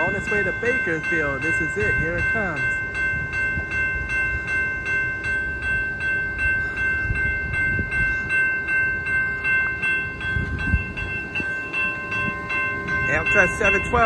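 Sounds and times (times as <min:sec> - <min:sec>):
railroad crossing bell ringing: 0:00.0 - 0:14.0.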